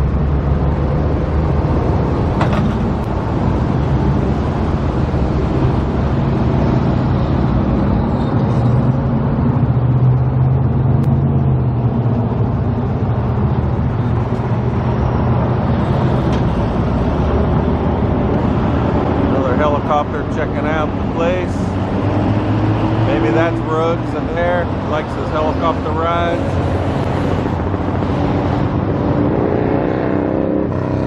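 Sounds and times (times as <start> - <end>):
road traffic noise: 0.0 - 31.0.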